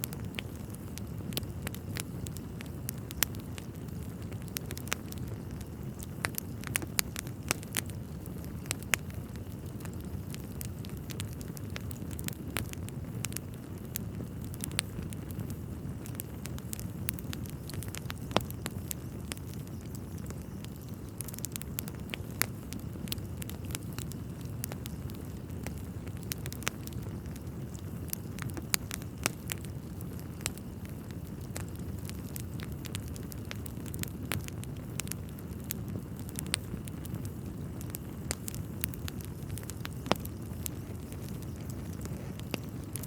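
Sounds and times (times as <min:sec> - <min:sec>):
burning logs crackling and popping: 0:00.0 - 0:43.0
fire flames rumbling: 0:00.0 - 0:43.0.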